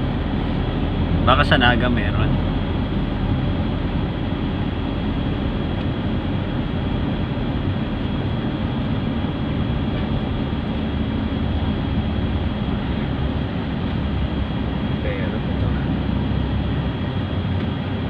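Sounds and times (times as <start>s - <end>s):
vehicle road and engine rumble: 0.0s - 18.0s.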